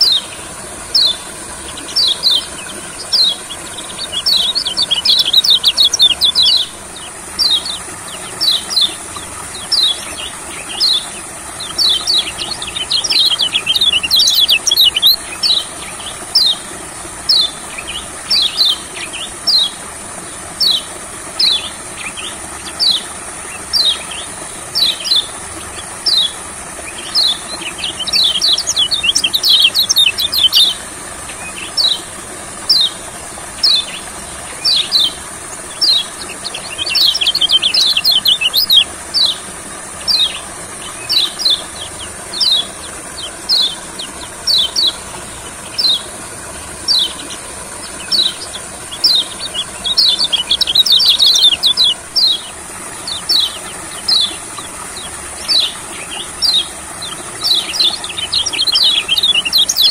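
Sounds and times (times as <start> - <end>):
bird chirping: 0.0 - 16.7, 21.4 - 32.1, 33.6 - 39.4, 40.0 - 59.9.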